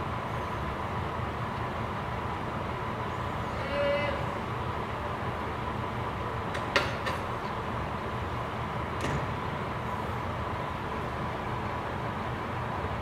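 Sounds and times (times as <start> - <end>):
diesel railcar engine idling: 0.0 - 13.0.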